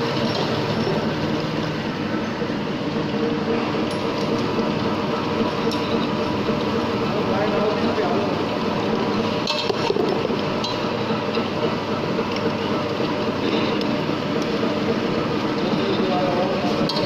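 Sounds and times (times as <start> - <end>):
grinding machine running: 0.0 - 17.0.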